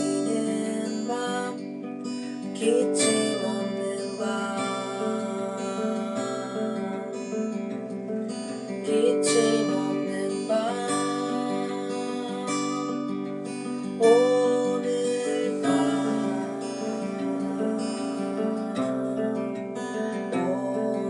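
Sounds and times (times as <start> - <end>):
person singing: 0.0 - 21.0
strummed acoustic guitar: 0.0 - 21.0.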